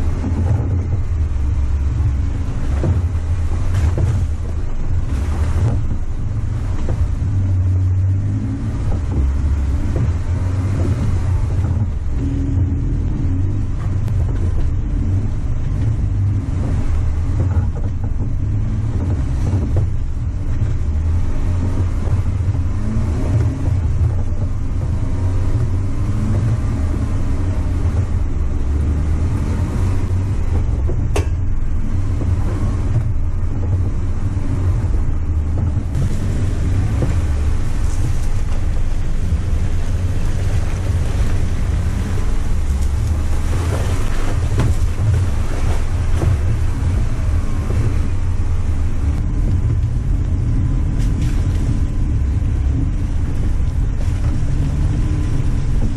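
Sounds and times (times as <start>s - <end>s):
vehicle engine low rumble: 0.0s - 55.9s.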